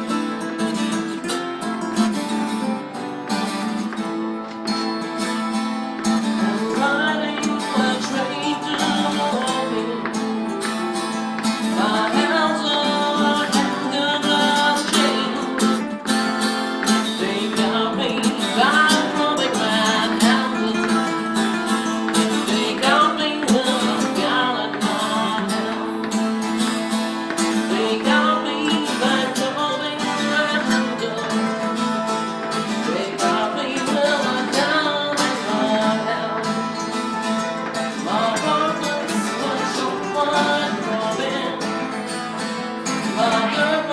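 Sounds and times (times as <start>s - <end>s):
acoustic guitar: 0.0s - 43.9s
person singing: 6.1s - 43.9s.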